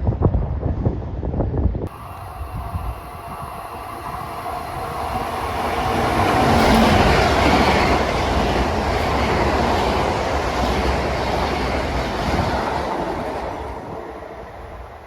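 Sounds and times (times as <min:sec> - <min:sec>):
train wheels on rails: 0:01.9 - 0:15.0.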